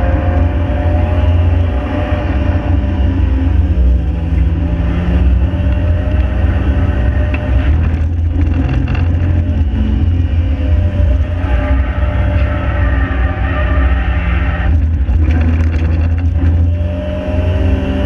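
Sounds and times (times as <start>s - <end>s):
car engine under load: 0.0s - 18.0s.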